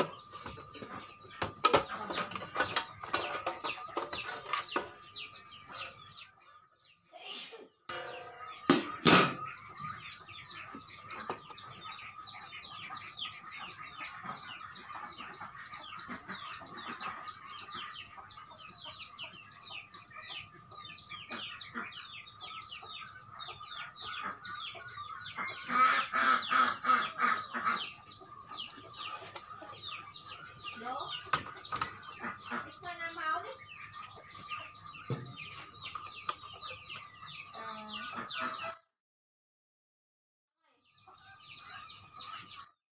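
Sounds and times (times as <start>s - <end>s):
chicken clucking: 0.0s - 38.8s, 40.8s - 42.8s
chicks peeping: 0.0s - 38.8s, 40.8s - 42.8s.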